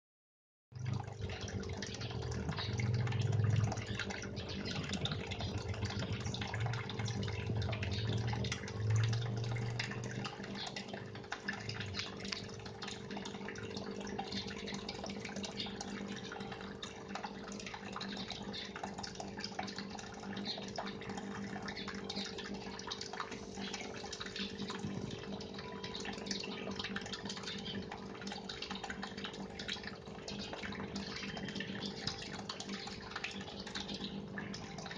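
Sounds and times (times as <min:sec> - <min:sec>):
aquarium water bubbling and splashing: 0:00.7 - 0:34.9
electric pump hum: 0:00.7 - 0:34.9.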